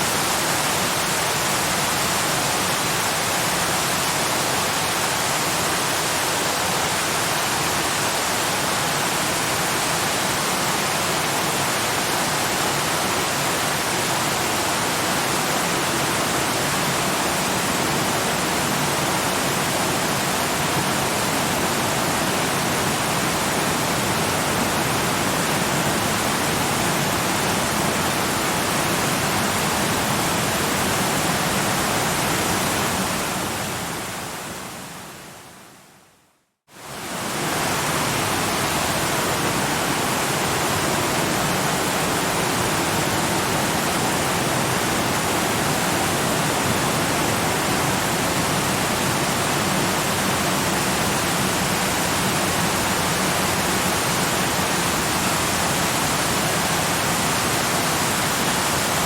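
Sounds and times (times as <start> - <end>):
waterfall rushing: 0.0 - 35.2, 36.8 - 59.0.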